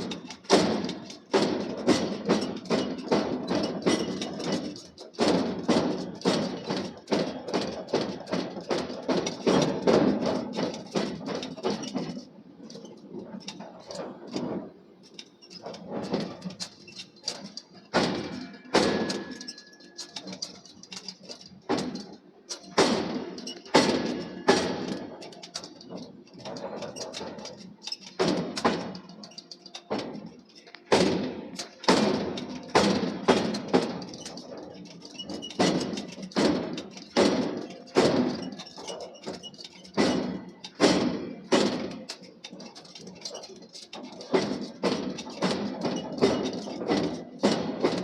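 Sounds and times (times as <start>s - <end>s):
heavy thuds of forging steel: 0.0s - 14.7s, 15.4s - 48.0s.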